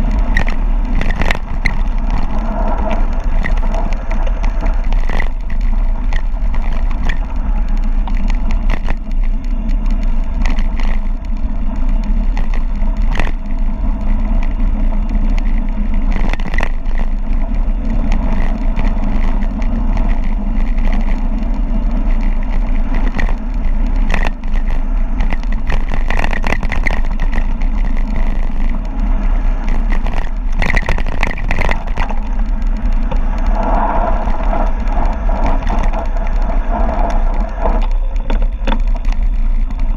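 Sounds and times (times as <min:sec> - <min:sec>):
bike rattling and knocking: 0:00.0 - 0:39.9
wind buffeting microphone: 0:00.0 - 0:39.9.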